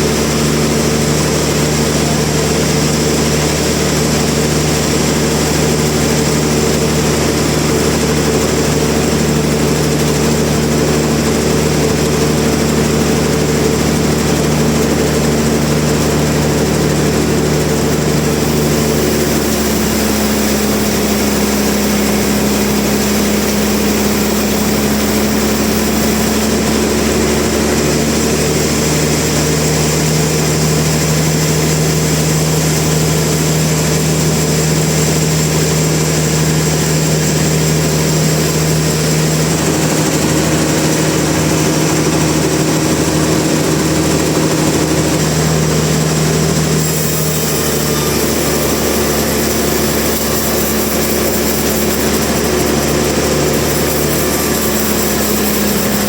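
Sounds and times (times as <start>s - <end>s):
sawmill machinery humming: 0.0s - 56.0s.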